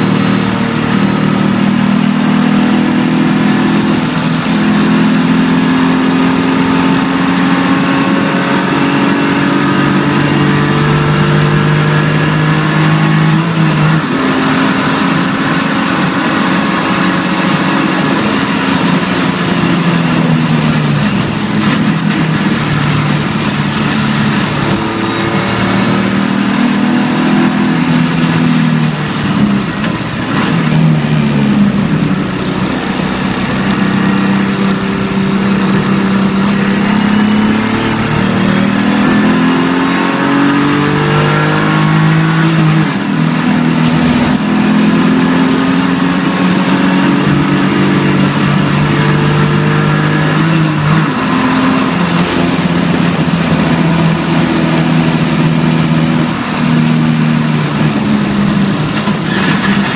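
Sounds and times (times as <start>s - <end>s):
car engine running under load: 0.0s - 59.9s.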